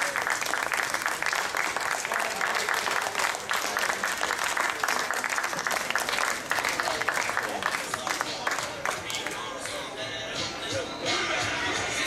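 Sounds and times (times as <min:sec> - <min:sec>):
spectators applauding: 0:00.0 - 0:09.8.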